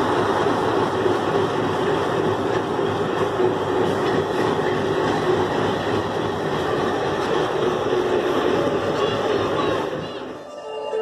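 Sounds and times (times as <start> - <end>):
diesel locomotive engine droning: 0.0 - 11.0.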